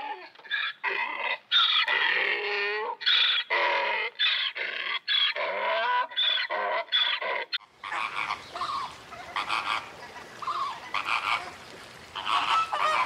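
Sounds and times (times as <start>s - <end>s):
donkey braying: 0.0s - 11.6s.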